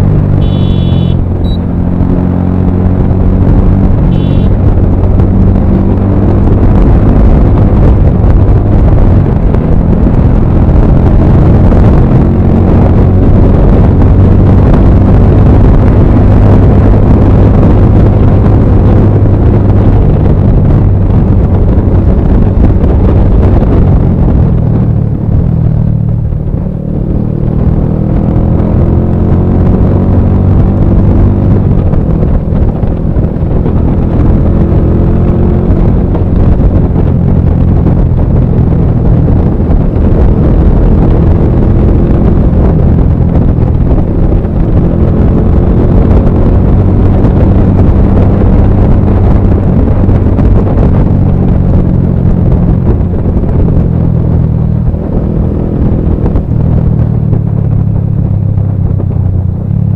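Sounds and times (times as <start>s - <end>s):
motorcycle engine accelerating: 0.0s - 59.9s
wind rumble on microphone: 0.0s - 59.9s.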